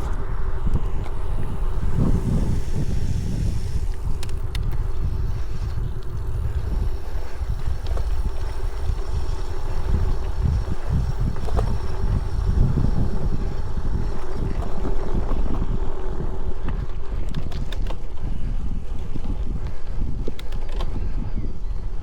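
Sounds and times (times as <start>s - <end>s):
faint steady hum: 0.0s - 22.0s
wind buffeting microphone: 0.0s - 22.0s.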